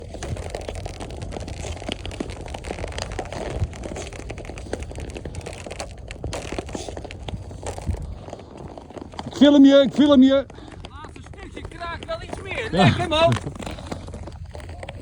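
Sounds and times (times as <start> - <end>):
ice cracking under skates: 0.0 - 15.0.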